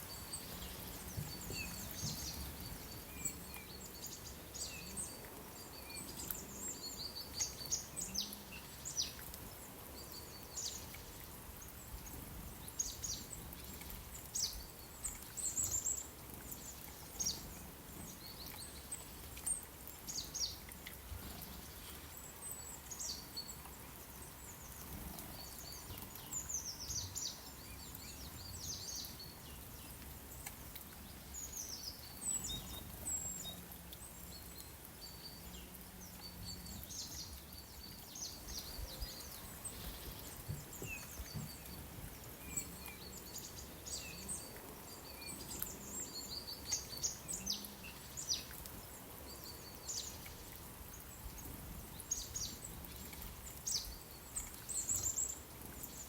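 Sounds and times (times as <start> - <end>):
outdoor ambient hiss: 0.0 - 56.0
small birds chirping: 0.0 - 56.0.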